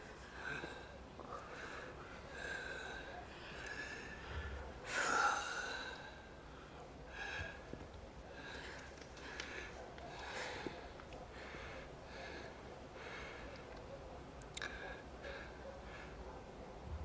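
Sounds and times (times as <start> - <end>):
person breathing heavily: 0.2 - 7.7, 8.3 - 13.7, 14.6 - 16.5.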